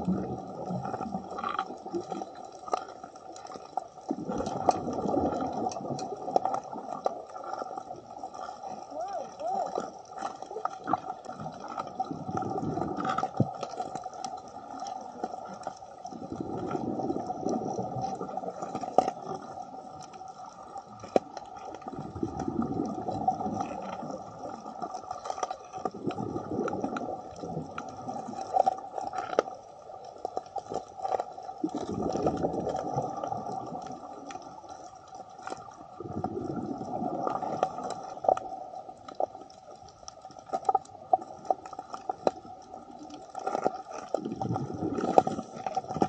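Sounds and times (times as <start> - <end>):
underwater bubbles from diver: 0.0 - 46.0.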